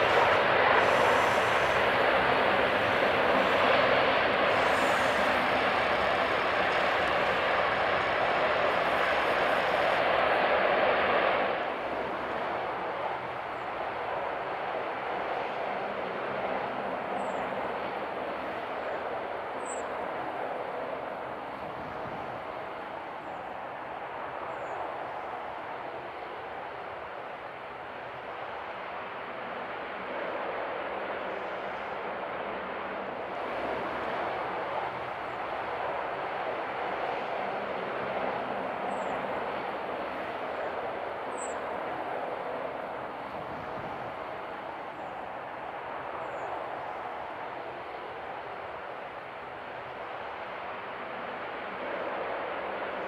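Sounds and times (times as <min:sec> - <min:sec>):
jet engines rushing: 0:00.0 - 0:53.0.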